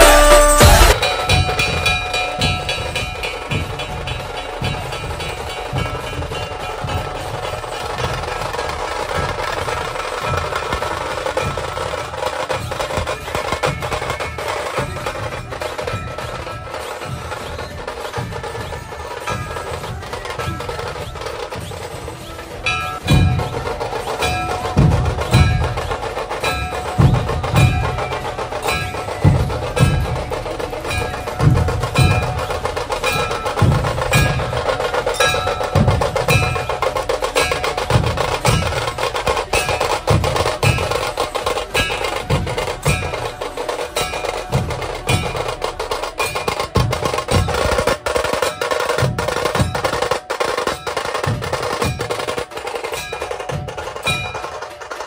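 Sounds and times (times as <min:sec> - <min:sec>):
dhol drums beating: 0:00.0 - 0:55.0
fast drum roll: 0:00.0 - 0:55.0
sharp high drum strikes: 0:00.0 - 0:55.0.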